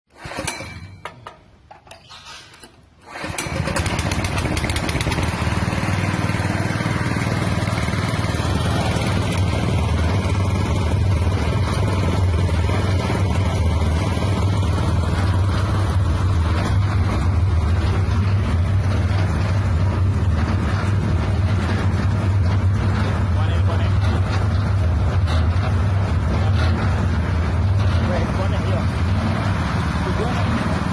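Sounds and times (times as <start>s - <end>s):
small engine running: 3.0s - 30.9s.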